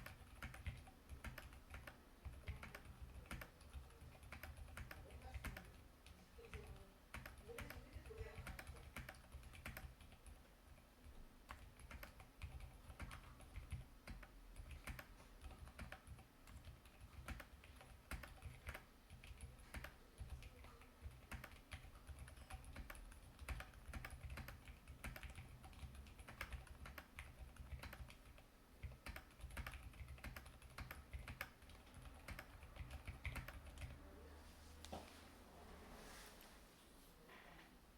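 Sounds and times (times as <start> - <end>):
fast typing on a keyboard: 0.0 - 34.0.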